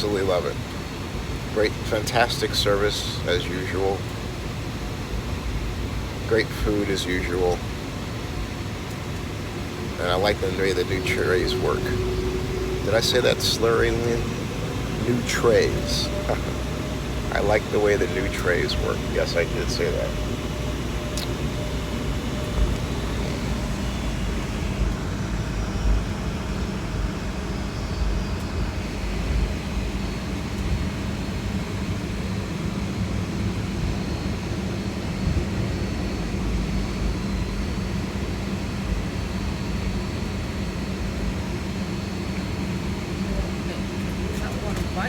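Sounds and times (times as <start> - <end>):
jet cabin rumble and hum: 0.0 - 45.0.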